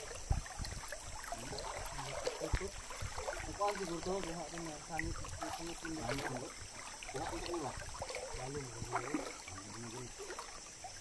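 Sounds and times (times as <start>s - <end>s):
rushing river: 0.0s - 11.0s
men talking: 1.4s - 10.4s.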